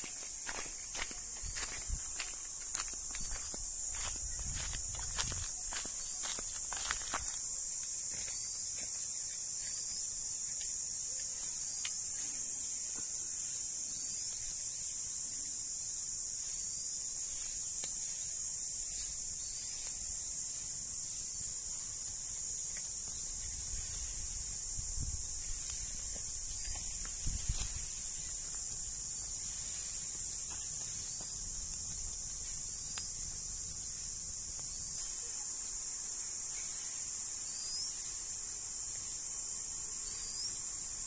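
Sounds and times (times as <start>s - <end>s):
leaf litter crackling in fire: 0.0s - 39.4s
insect chorus droning: 0.0s - 41.0s.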